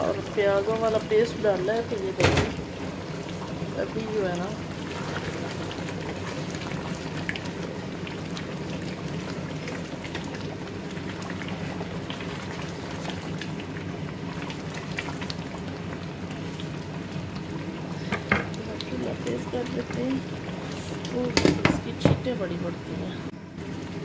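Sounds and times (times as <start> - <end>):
curry bubbling in a pot: 0.0 - 24.0.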